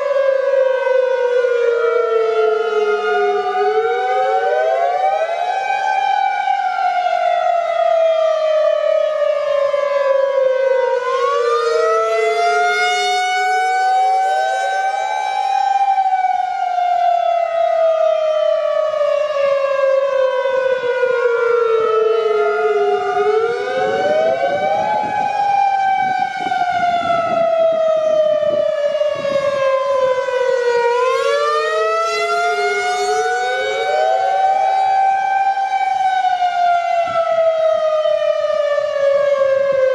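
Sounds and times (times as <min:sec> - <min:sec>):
warning sirens wailing: 0:00.0 - 0:39.9.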